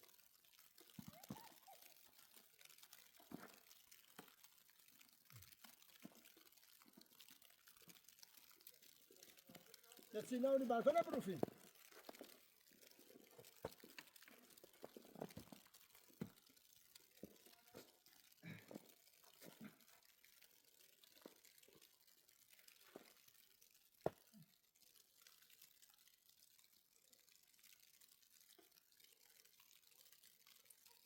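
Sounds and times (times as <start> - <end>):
faint small clicks and taps: 0.0 - 10.2, 11.4 - 31.0.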